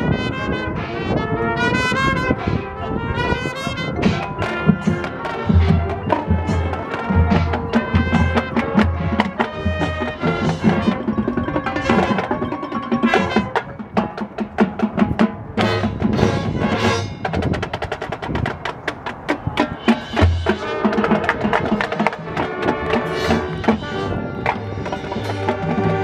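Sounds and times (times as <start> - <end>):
sustained wind and brass notes: 0.0 - 26.0
marching band drum strokes: 3.2 - 26.0.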